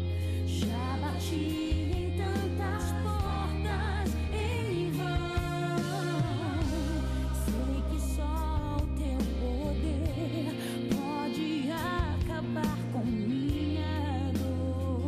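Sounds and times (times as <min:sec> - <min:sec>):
instrumental accompaniment with bass: 0:00.0 - 0:15.0
woman singing gospel song: 0:00.0 - 0:15.0.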